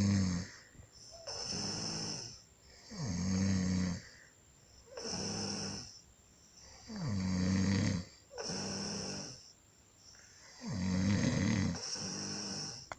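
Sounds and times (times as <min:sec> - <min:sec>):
rattling snores: 0:00.0 - 0:04.2, 0:04.9 - 0:06.0, 0:06.6 - 0:09.5, 0:10.4 - 0:12.9
breathy hiss: 0:00.0 - 0:12.9.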